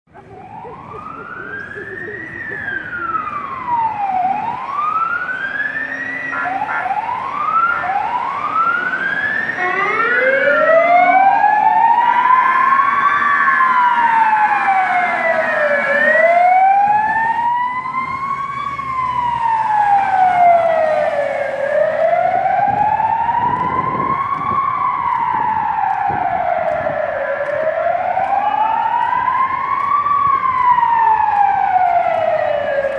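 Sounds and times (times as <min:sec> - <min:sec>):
fire engine siren wailing: 0:00.1 - 0:32.9.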